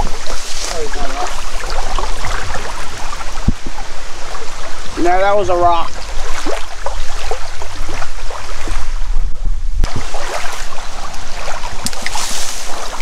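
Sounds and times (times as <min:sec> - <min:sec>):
river water lapping: 0:00.0 - 0:09.2, 0:09.8 - 0:13.0
wind rumbling on microphone: 0:00.0 - 0:13.0.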